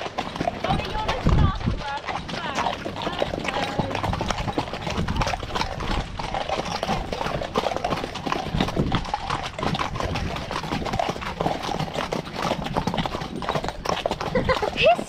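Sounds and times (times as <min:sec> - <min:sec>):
horse hoofbeats on mud: 0:00.0 - 0:15.0.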